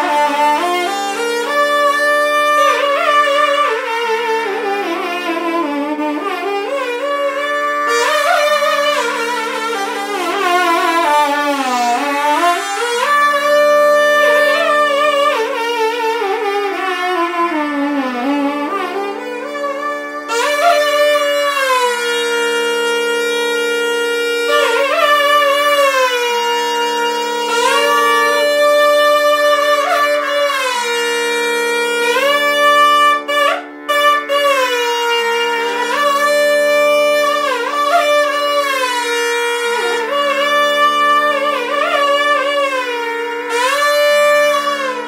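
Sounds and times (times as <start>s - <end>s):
double-reed pipes playing: 0.0s - 45.0s
steady low drone note: 0.0s - 45.0s.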